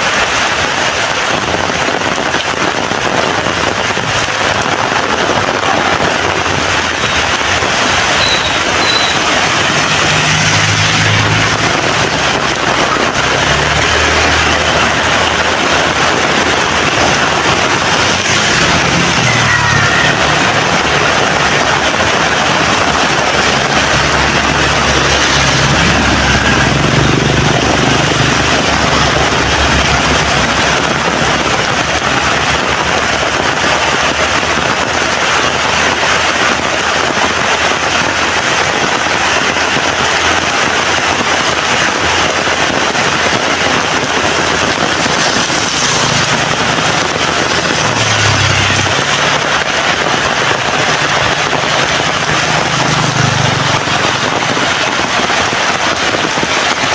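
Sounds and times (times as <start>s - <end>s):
heavy rain hissing: 0.0s - 56.9s.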